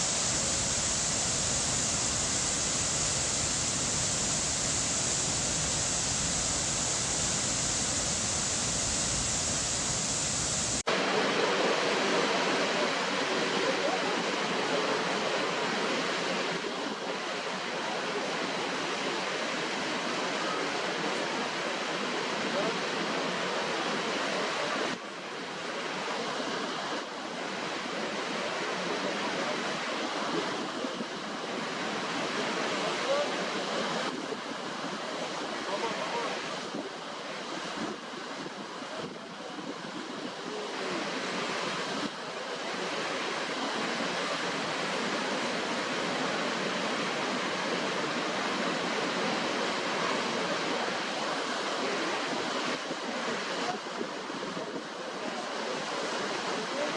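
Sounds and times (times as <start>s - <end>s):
fuller water sound: 0.0s - 56.9s
waterfall rushing: 0.0s - 56.9s.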